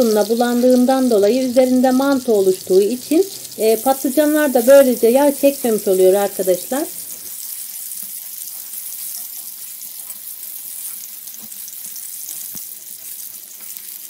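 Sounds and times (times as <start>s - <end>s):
eggplant frying in hot oil: 0.0s - 14.0s.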